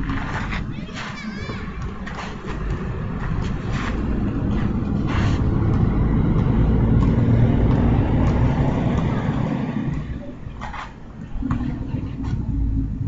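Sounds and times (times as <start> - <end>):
vehicle passing rumble: 0.0 - 13.0.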